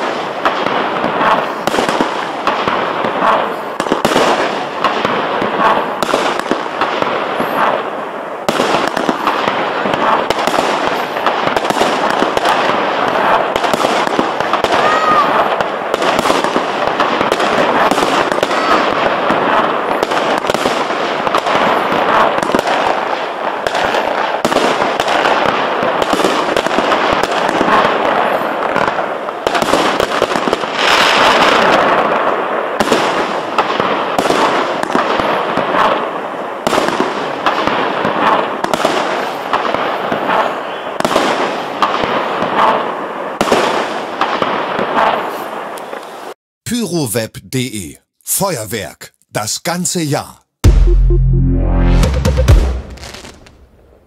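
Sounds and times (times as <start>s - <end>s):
dense rush of fireworks noise: 0.0s - 46.4s, 52.1s - 54.0s
fireworks reports: 0.0s - 53.8s.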